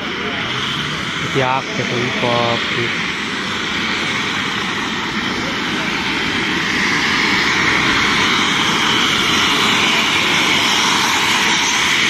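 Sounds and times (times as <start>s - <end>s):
helicopter turbine engines whining: 0.0s - 12.0s.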